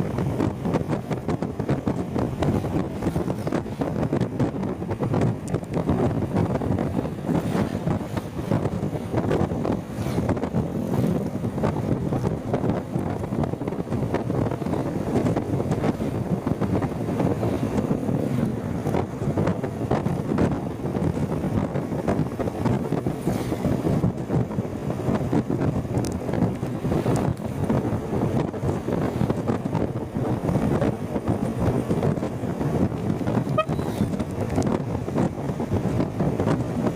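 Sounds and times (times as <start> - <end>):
moving vehicle noise: 0.0 - 36.9
wind buffeting microphone: 0.0 - 36.9.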